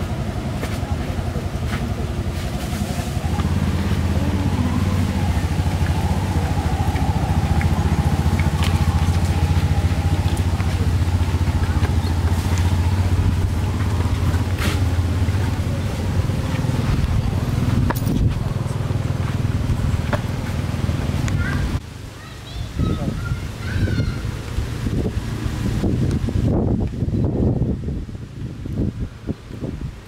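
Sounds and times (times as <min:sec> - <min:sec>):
engine running low rumble: 0:00.0 - 0:22.1, 0:22.8 - 0:30.0.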